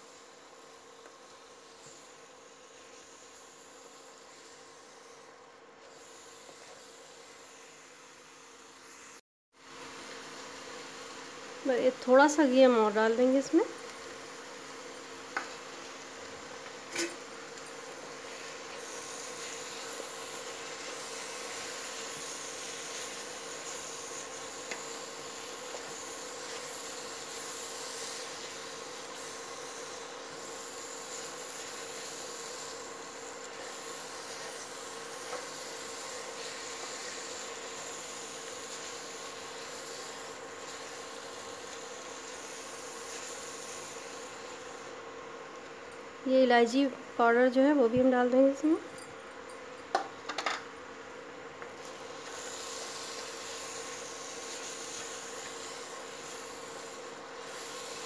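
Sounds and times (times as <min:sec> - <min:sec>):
food sizzling in a pan: 0:00.0 - 0:48.8, 0:50.0 - 0:58.0
electrical hum: 0:00.0 - 0:58.0.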